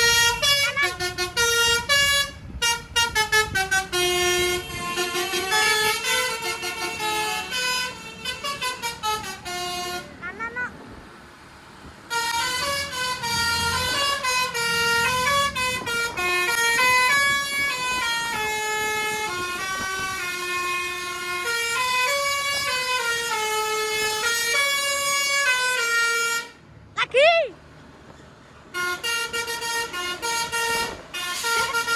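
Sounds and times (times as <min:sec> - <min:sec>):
musical bus horn tune: 0:00.0 - 0:10.2, 0:12.1 - 0:26.6, 0:28.7 - 0:31.9
engine rumble: 0:00.0 - 0:31.9.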